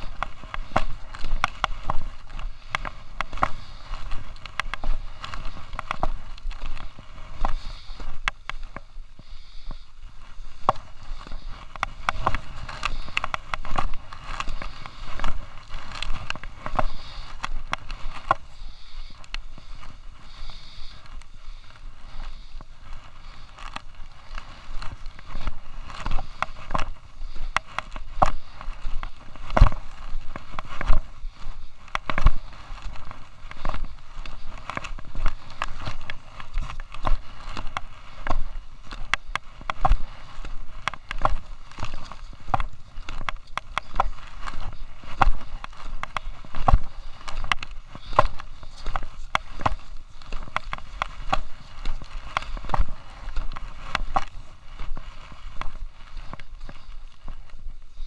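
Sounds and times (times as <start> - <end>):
camera rubbing against jacket fabric: 0.0 - 58.0
skis scraping over packed snow: 0.0 - 58.0.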